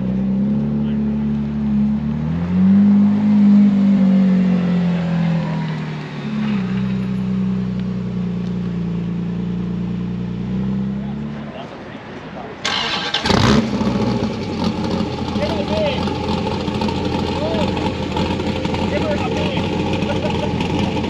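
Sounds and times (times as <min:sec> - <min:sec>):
car engine revving: 0:00.0 - 0:11.9, 0:12.5 - 0:21.0.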